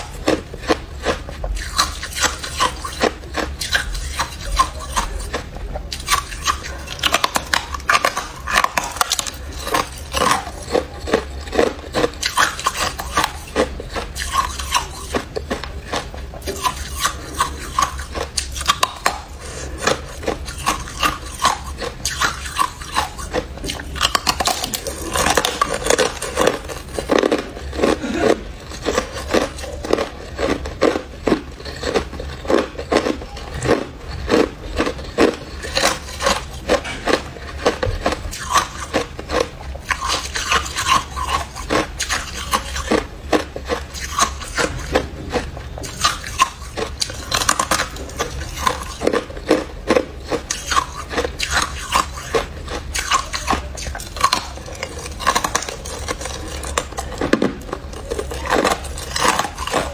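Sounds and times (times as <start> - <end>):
chewing crunchy ice: 0.0 - 59.9.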